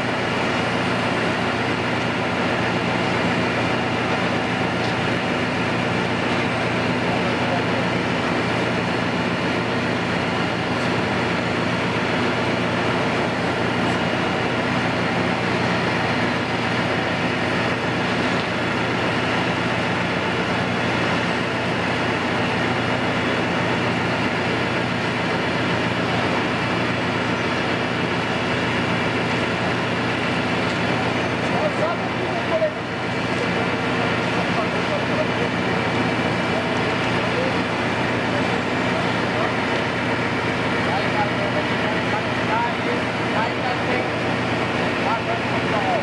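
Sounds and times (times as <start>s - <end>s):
dense mechanical rumble: 0.0s - 46.0s.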